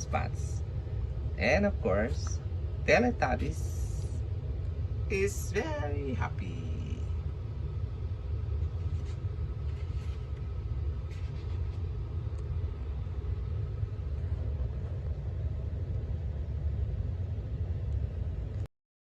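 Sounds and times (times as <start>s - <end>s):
low background rumble: 0.0s - 18.7s.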